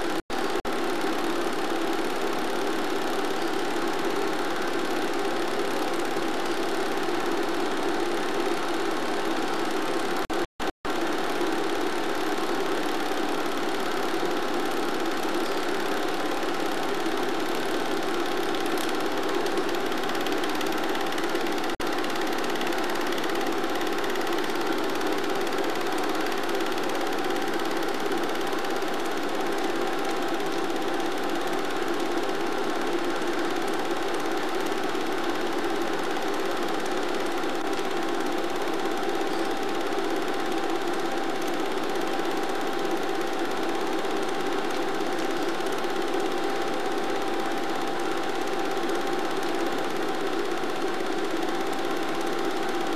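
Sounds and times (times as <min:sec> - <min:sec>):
film projector whirring and clattering: 0:00.0 - 0:52.9.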